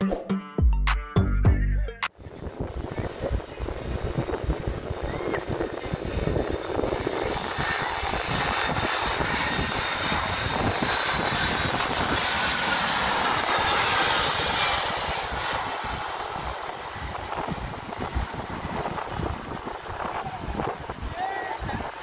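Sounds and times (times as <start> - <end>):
wind buffeting microphone: 2.2 - 22.0
jet roar with fan whine: 2.5 - 21.0.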